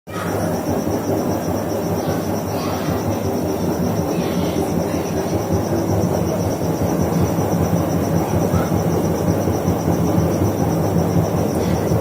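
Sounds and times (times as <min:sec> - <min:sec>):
faint high whine: 0:00.1 - 0:12.0
washing machine drum spinning: 0:00.1 - 0:12.0.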